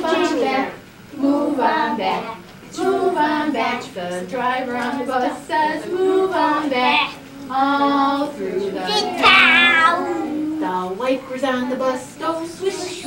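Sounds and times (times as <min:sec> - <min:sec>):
woman and children singing: 0:00.0 - 0:13.0.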